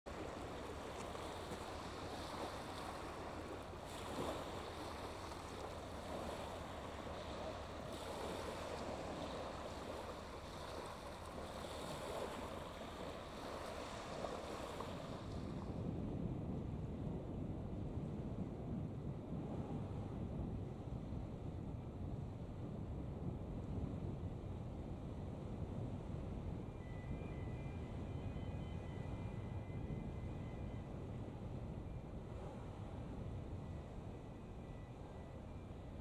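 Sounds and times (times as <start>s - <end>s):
wind rumble on microphone: 0.1s - 36.0s.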